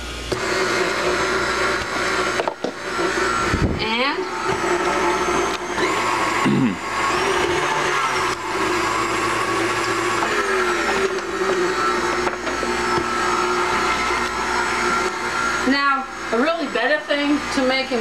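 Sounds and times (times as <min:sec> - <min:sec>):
stand mixer motor running: 0:00.0 - 0:18.0.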